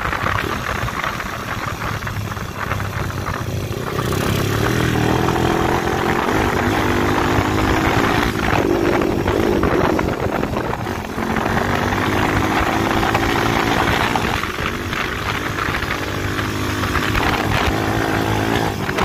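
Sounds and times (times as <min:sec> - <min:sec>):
dirt bike engine revving: 0:03.2 - 0:19.0.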